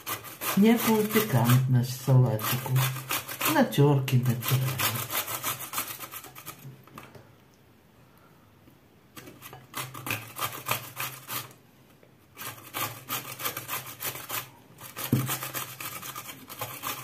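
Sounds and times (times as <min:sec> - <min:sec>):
cucumber rasping on a box grater: 0:00.0 - 0:06.8, 0:09.1 - 0:11.6, 0:12.3 - 0:17.0.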